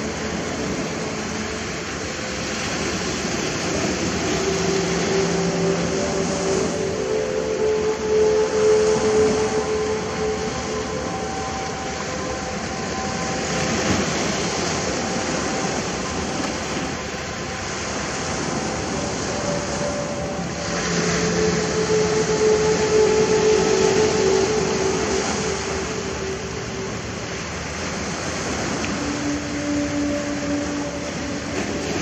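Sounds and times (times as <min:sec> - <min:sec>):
faint humming tones: 0:00.0 - 0:32.0
waves washing onto beach: 0:00.0 - 0:32.0.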